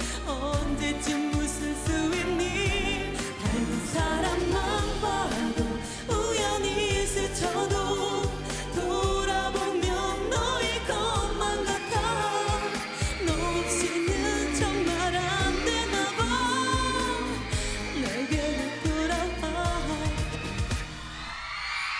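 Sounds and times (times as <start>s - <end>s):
woman singing into a microphone: 0.0s - 20.5s
pop backing track with beat: 0.0s - 21.6s.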